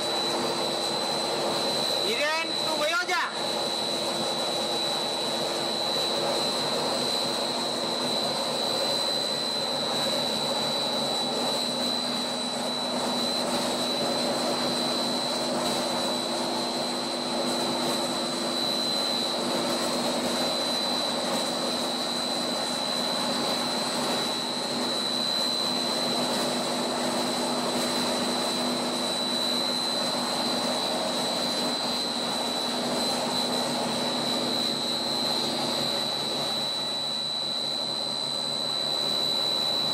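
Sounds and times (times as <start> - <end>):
high machine whine: 0.0 - 39.9.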